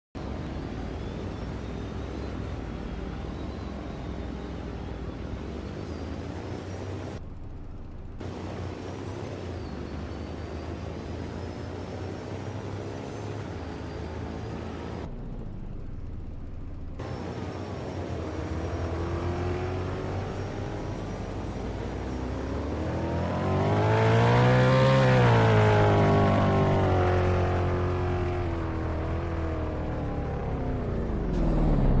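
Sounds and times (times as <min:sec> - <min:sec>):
vehicle engine and road noise: 0:00.1 - 0:32.0.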